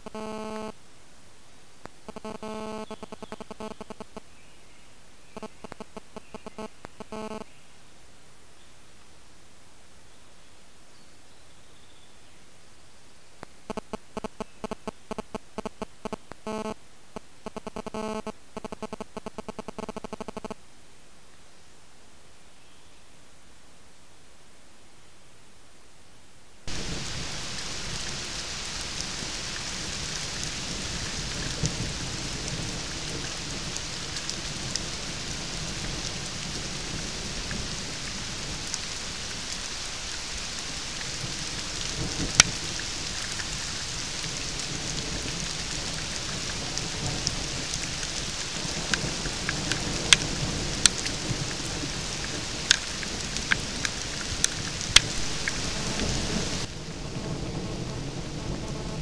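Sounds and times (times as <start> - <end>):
rain falling on leaves: 0.0 - 25.2, 25.8 - 59.0.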